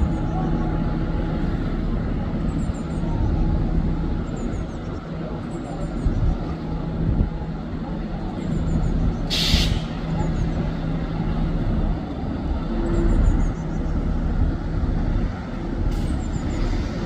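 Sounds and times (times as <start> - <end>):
diesel bus engine rumbling: 0.0 - 17.0
street traffic: 0.0 - 17.0.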